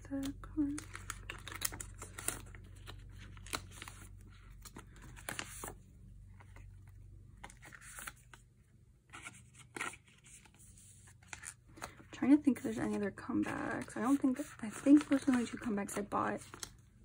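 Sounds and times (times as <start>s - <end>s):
plastic sleeves rustling: 0.0s - 17.0s.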